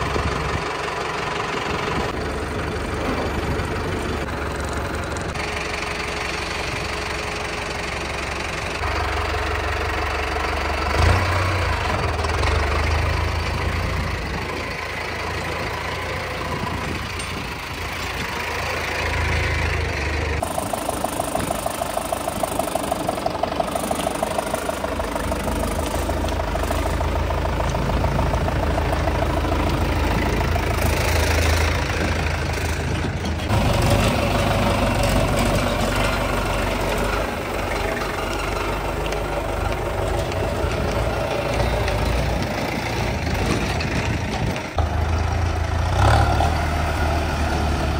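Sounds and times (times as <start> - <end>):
diesel tractor engines idling: 0.0 - 47.9.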